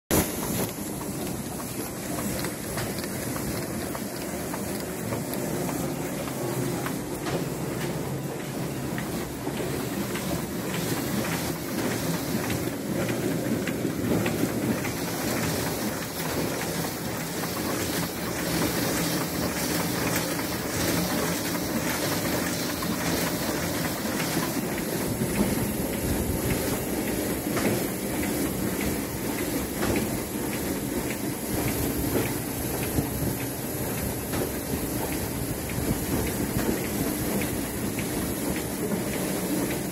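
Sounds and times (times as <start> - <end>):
printing press clattering: 0.1 - 39.9.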